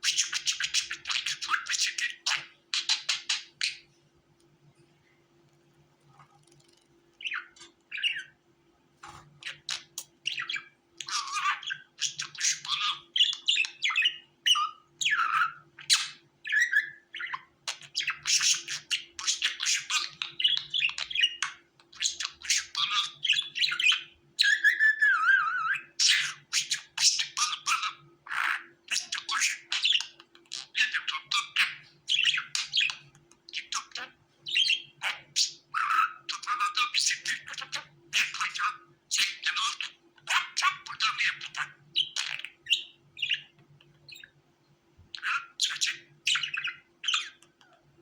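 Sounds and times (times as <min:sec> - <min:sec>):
budgerigar chirping and warbling: 0:00.0 - 0:03.9, 0:07.2 - 0:08.4, 0:09.1 - 0:44.3, 0:45.1 - 0:47.4.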